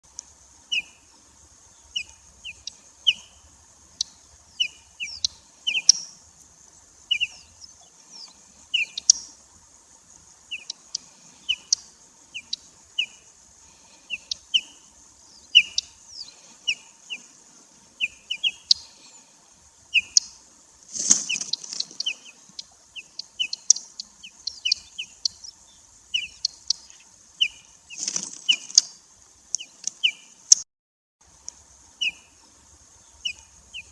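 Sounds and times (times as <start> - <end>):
birds chirping: 0.0 - 30.6, 31.9 - 33.9
steady high hiss: 0.0 - 30.6, 31.2 - 33.9.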